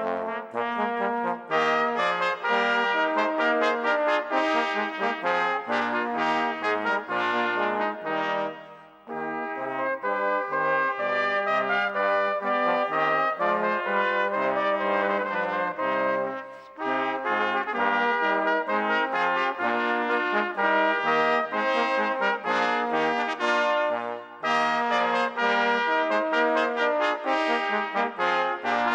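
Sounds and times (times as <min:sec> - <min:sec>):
brass instruments playing melody: 0:00.0 - 0:28.9.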